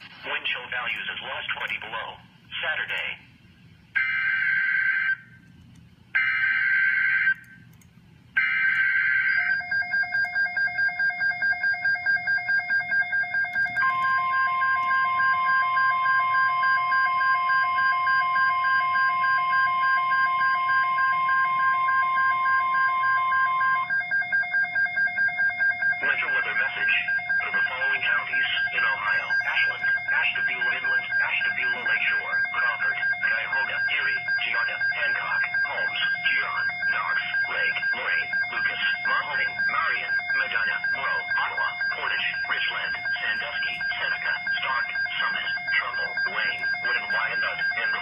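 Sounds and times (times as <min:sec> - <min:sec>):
piercing warning alarm tone: 0:04.0 - 0:05.4, 0:06.2 - 0:07.8, 0:08.4 - 0:48.0.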